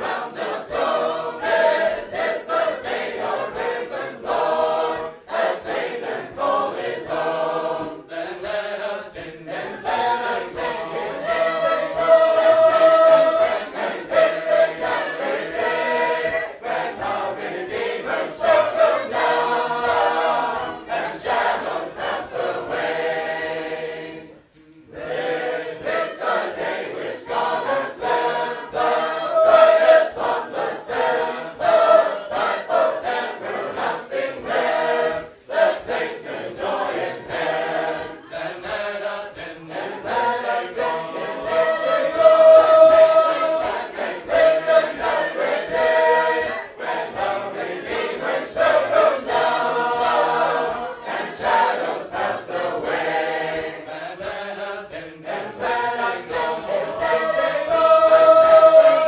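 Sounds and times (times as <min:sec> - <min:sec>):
unaccompanied choir singing: 0:00.0 - 0:59.0.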